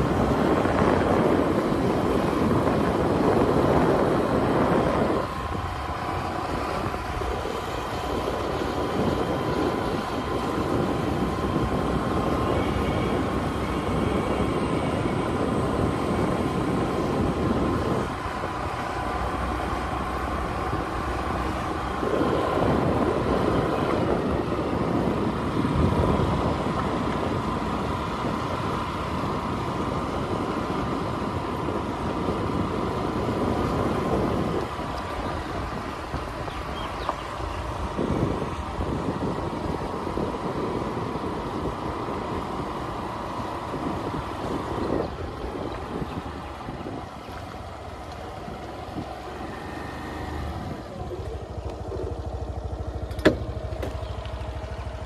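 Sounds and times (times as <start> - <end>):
scooter engine running: 0.0 - 55.0
wind and road noise: 0.0 - 55.0.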